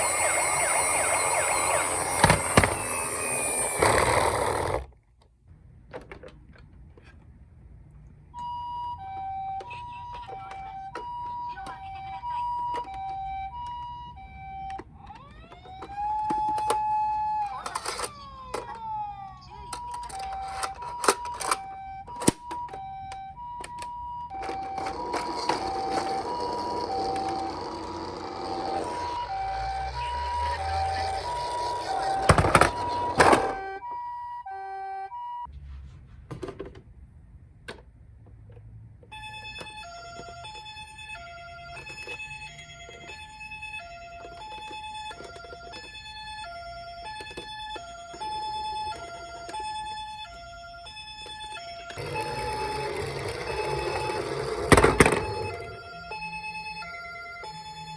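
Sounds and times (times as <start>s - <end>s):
toy two-tone hi-lo siren: 0.0s - 4.8s, 8.4s - 35.5s, 39.1s - 57.9s
toy sirens sounding together: 0.0s - 4.9s, 8.4s - 35.5s, 39.1s - 57.9s.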